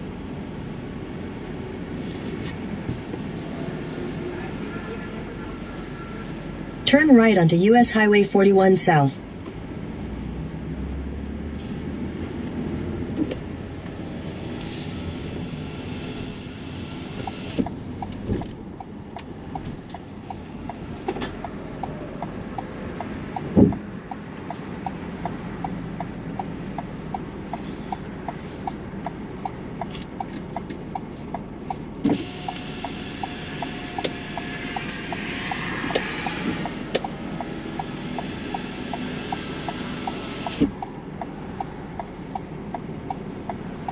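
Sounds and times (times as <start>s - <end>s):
van engine and road noise: 0.0s - 43.9s
turn signal ticking: 6.5s - 43.9s.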